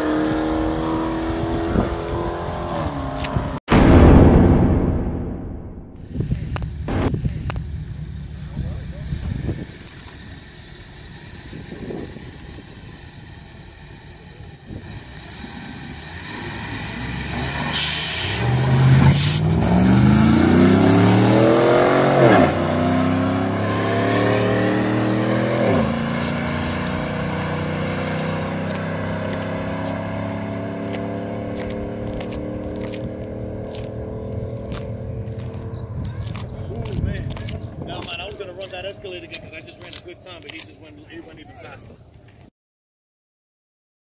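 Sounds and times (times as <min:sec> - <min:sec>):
car engine accelerating hard: 0:00.0 - 0:03.6, 0:06.2 - 0:39.8.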